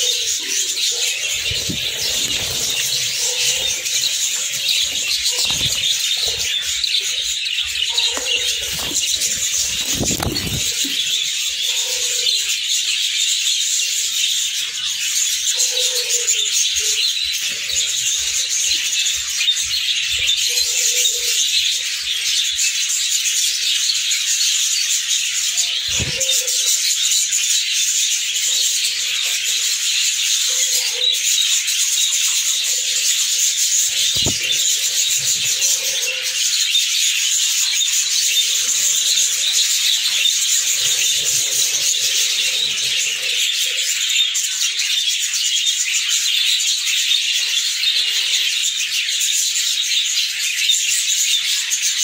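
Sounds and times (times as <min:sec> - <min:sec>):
budgerigars chattering: 0:00.0 - 0:52.0.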